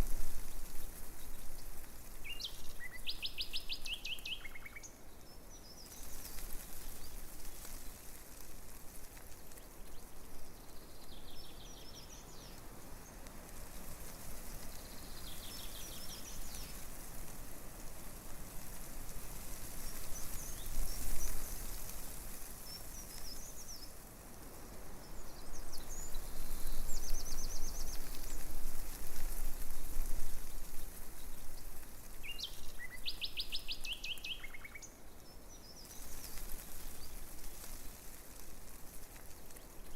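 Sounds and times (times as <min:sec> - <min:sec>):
breeze rustling leaves: 0:00.0 - 0:39.9.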